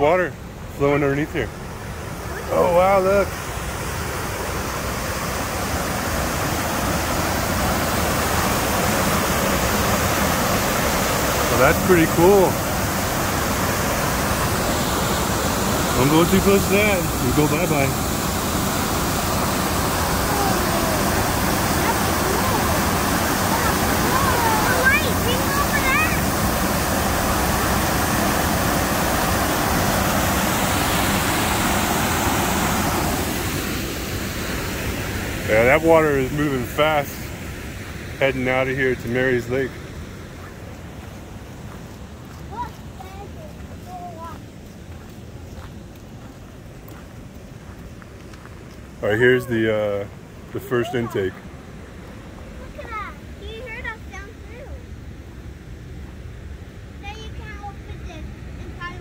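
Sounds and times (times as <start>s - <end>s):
water rushing through channel: 0.0s - 56.3s.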